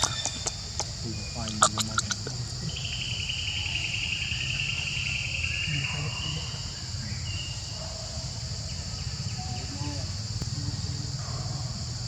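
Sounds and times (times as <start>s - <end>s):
insects trilling chorus: 0.0s - 12.0s
pulsing insect trill: 0.0s - 12.0s.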